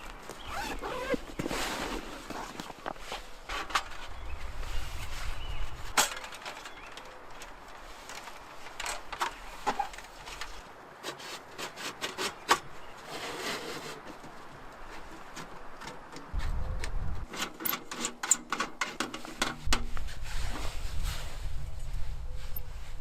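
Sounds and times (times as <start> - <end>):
rustling: 0.0 - 23.0.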